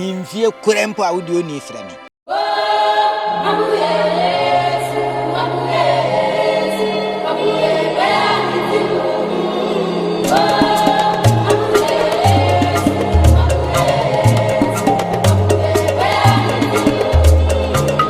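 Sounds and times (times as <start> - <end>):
gospel choir singing: 2.3 - 18.0.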